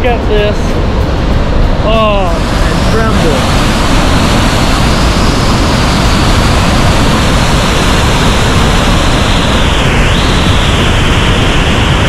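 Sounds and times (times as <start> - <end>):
water roaring down a spillway: 1.6 - 11.8.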